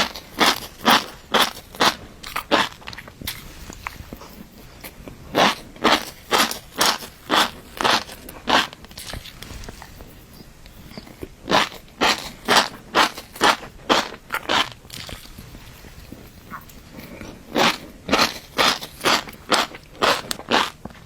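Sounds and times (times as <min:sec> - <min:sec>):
chewing fish roe: 0:00.0 - 0:21.0.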